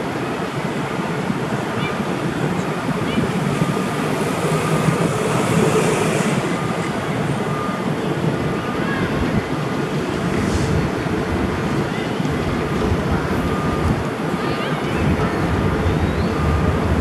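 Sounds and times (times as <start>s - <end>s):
locomotive engine running: 0.0s - 17.0s.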